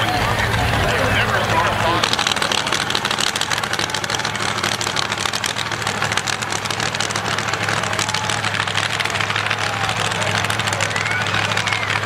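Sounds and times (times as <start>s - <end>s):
racing car engine idling: 0.0s - 12.0s.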